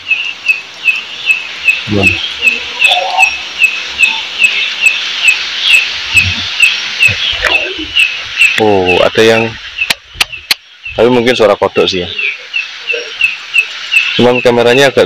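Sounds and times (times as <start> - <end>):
frog chirping: 0.0 - 15.0.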